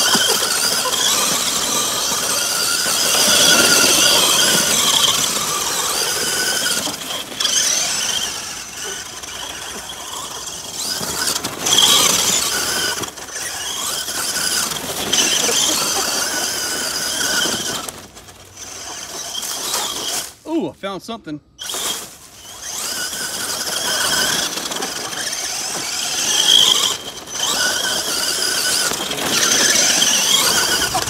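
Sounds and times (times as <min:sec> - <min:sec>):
electric toy truck motor whining: 0:00.0 - 0:20.4, 0:21.6 - 0:31.0
tyres on loose dirt: 0:00.0 - 0:20.7, 0:21.6 - 0:31.0.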